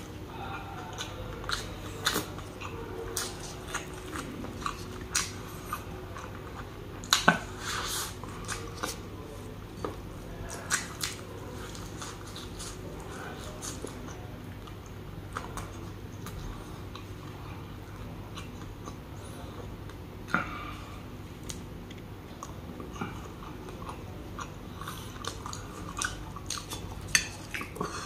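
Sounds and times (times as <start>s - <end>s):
man chewing food: 0.0s - 28.0s.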